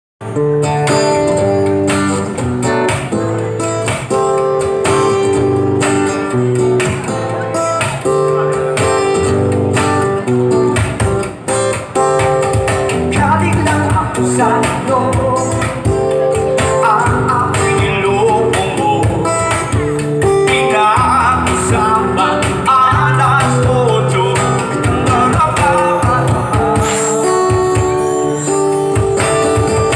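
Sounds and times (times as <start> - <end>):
live band playing guitars: 0.2 - 29.9
hand percussion beat: 0.8 - 29.9.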